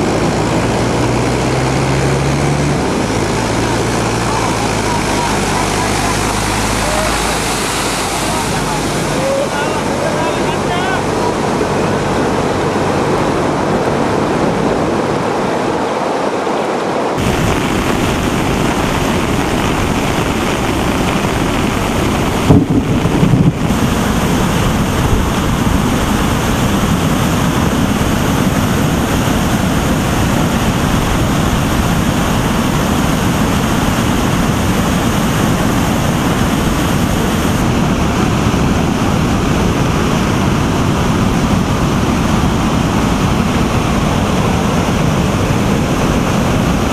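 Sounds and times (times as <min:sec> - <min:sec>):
vehicle engine running: 0:00.0 - 0:15.5, 0:17.2 - 0:46.9
water roaring through spillway: 0:00.0 - 0:46.9
water splashing: 0:00.0 - 0:46.9
wind buffeting microphone: 0:00.0 - 0:46.9.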